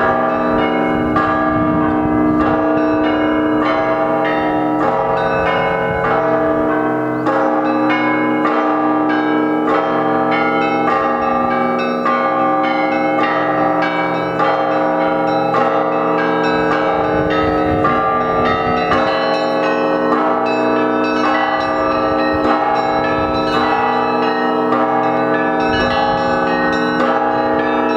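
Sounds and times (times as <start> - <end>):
church bells pealing: 0.0 - 27.9.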